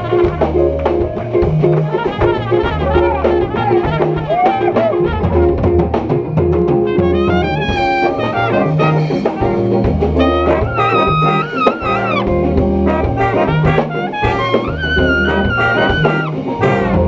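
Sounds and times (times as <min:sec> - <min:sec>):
saxophones and brass: 0:00.0 - 0:06.0, 0:06.9 - 0:17.0
big band playing jazz: 0:00.0 - 0:17.0
drum kit: 0:00.0 - 0:17.0.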